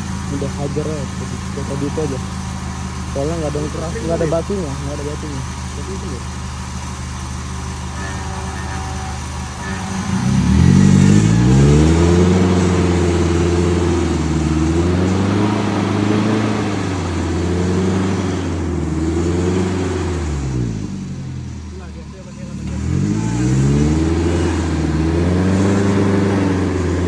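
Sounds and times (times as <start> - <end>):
off-road vehicle engine revving: 0.0 - 27.0.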